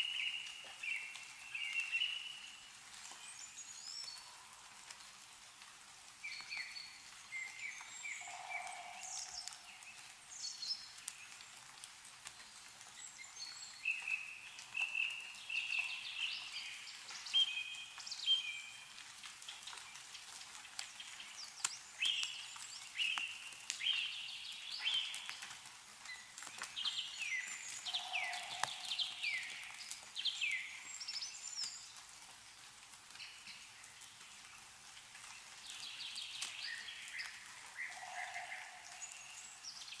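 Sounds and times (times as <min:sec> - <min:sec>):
snowmelt dripping from trees: 0:00.0 - 0:40.0
songbirds chirping: 0:00.0 - 0:40.0.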